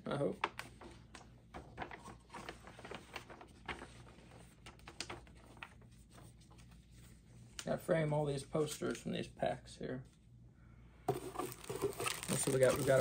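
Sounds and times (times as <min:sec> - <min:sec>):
paper poster rustling: 0:00.1 - 0:09.0, 0:11.1 - 0:13.0.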